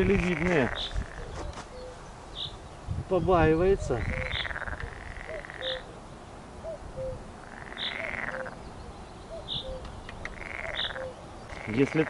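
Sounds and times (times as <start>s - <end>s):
frogs trilling: 0.0s - 2.6s, 3.9s - 5.9s, 6.6s - 12.0s.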